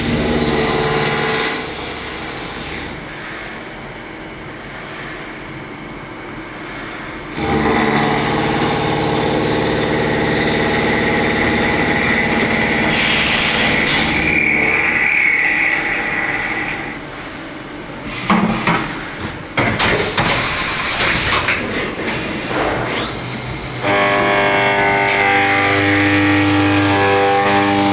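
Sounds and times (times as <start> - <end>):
machining centre whine: 0.0 - 27.9.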